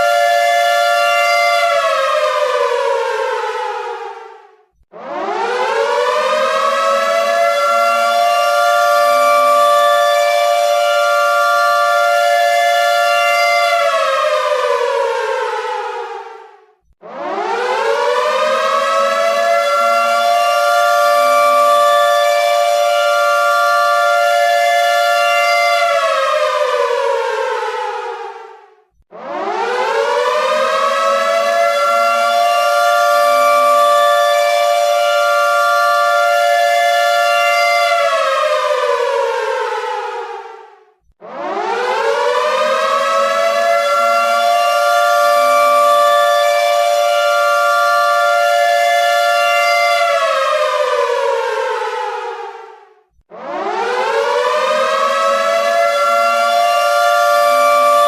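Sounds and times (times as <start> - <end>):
air raid siren wailing: 0.0 - 58.0.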